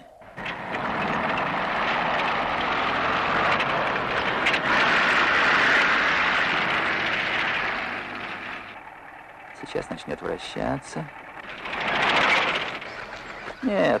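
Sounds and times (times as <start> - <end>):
tank moving on tracks: 0.0 - 14.0.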